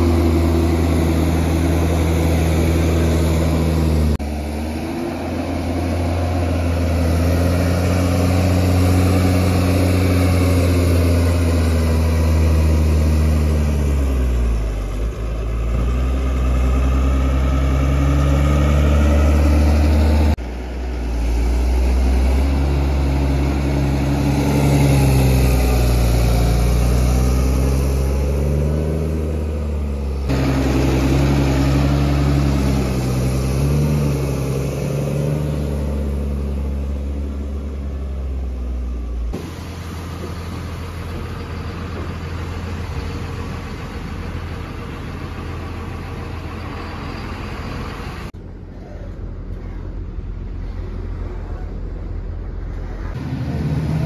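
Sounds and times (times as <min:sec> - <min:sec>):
tractor diesel engine working: 0:00.0 - 0:54.0.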